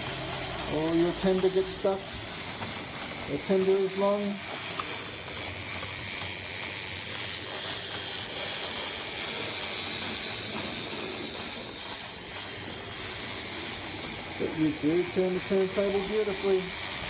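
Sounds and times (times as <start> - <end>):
toy train motor whirring: 0.0 - 17.0.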